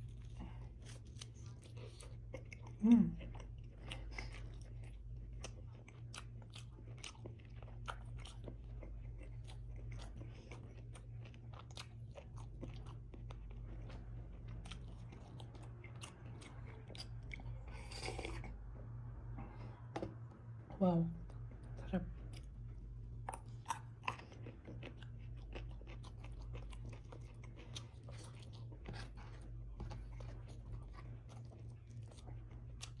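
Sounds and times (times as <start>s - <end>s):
close-up chewing with mouth smacks: 0.0s - 18.9s, 21.2s - 33.0s.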